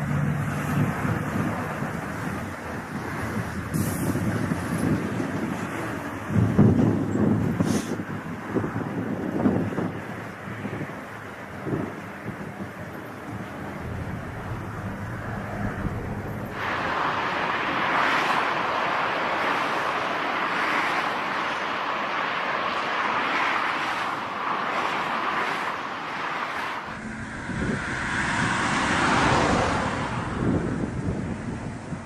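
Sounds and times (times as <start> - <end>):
wind buffeting microphone: 0.0 - 20.6, 26.8 - 32.0.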